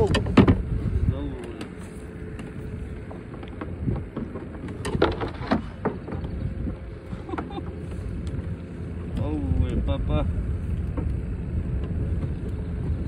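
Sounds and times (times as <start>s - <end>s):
gear knocking against kayak: 0.0s - 9.4s, 10.7s - 13.0s
wind rumbling on microphone: 0.0s - 13.0s.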